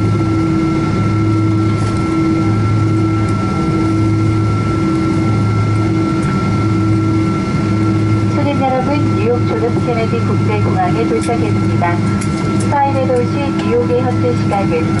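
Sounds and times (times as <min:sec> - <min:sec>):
aircraft cabin rumble: 0:00.0 - 0:15.0
high steady whine: 0:00.0 - 0:15.0
pulsing low drone: 0:00.0 - 0:15.0.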